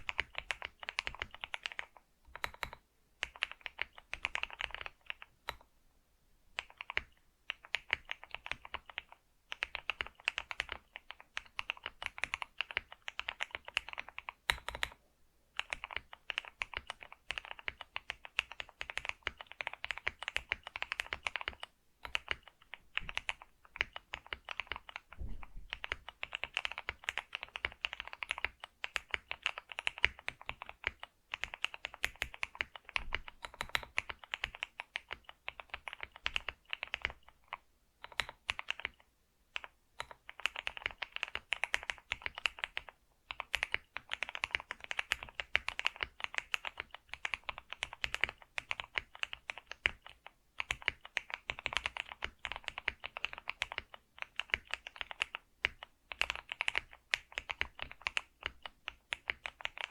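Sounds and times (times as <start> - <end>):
keyboard typing: 0.0 - 5.7, 6.6 - 15.0, 15.6 - 59.9.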